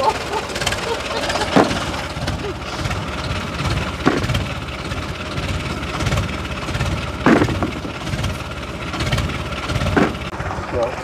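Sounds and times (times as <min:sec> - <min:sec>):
diesel tractor engine idling: 0:00.0 - 0:11.0.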